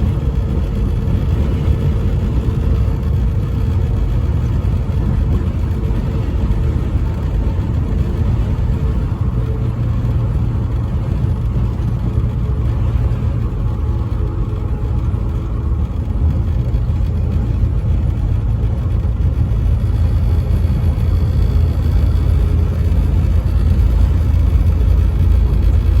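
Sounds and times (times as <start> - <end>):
heavy vehicles rumbling: 0.0 - 26.0.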